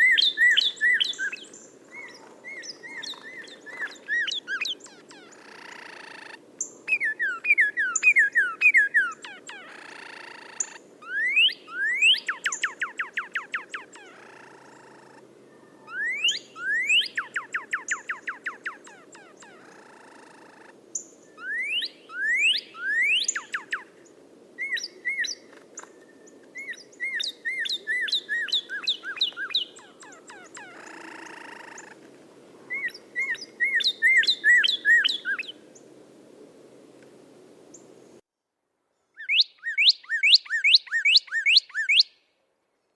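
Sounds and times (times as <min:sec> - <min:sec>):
songbird singing whistle notes: 0:00.0 - 0:14.1, 0:15.6 - 0:20.0, 0:21.0 - 0:23.9, 0:24.6 - 0:31.9, 0:32.7 - 0:35.6, 0:39.2 - 0:42.2.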